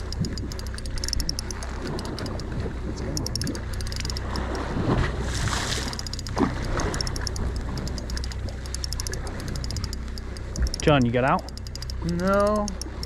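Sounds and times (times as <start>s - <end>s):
rapid fine clicking: 0.0s - 4.7s, 5.8s - 13.0s
boat engine humming: 0.0s - 13.0s
wind: 0.0s - 13.0s.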